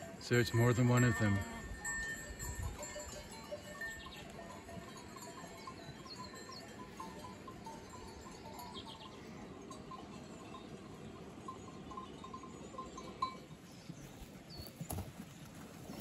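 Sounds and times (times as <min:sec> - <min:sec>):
sheep bells tinkling: 0:00.0 - 0:16.0.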